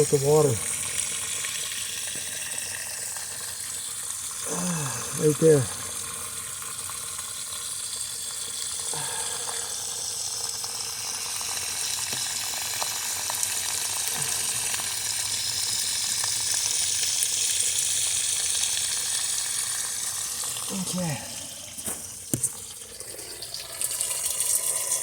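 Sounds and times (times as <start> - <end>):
water spraying under pressure: 0.0 - 25.0.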